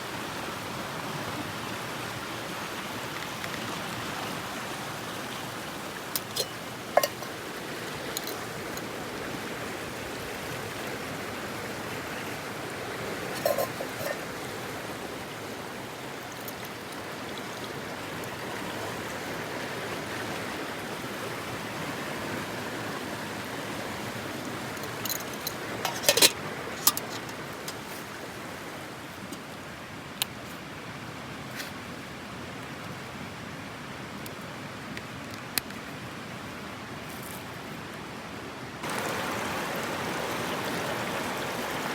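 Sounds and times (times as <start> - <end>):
mountain stream flowing: 0.0 - 41.9.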